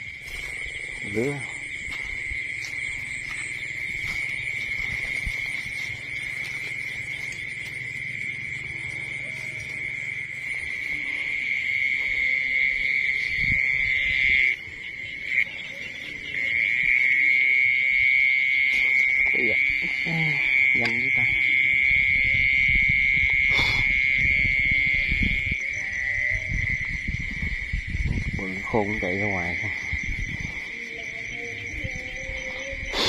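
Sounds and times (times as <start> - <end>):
insect trilling: 0.0 - 33.0.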